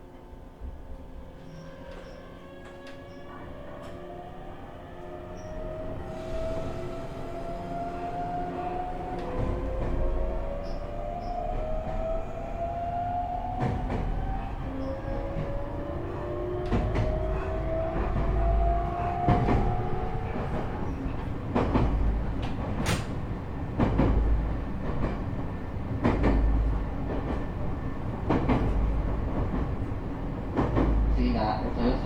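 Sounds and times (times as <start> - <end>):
low train rumble: 0.0 - 32.0.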